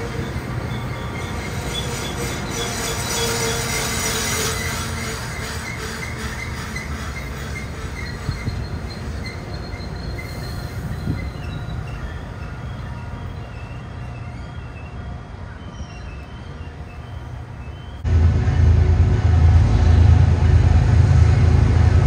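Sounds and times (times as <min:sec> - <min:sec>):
train cars rolling on rails: 0:00.0 - 0:22.0.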